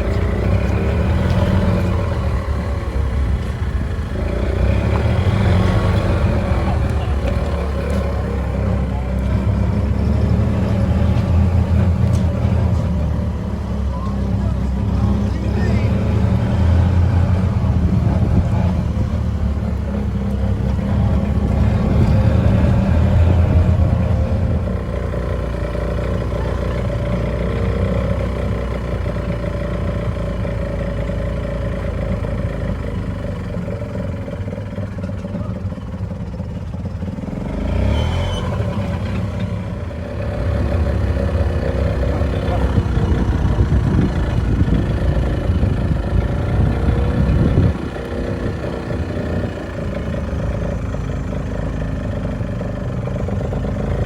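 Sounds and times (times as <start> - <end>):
golf cart engine running: 0.0 - 54.0.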